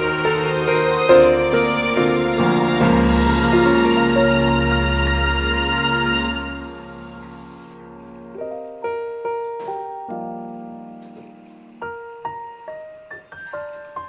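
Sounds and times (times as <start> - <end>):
solo piano: 0.0 - 14.0.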